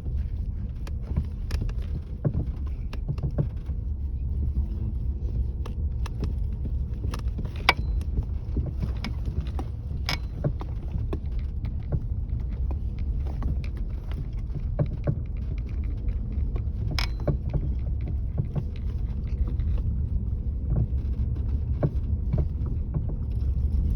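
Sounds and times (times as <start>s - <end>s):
low road rumble: 0.0s - 23.9s.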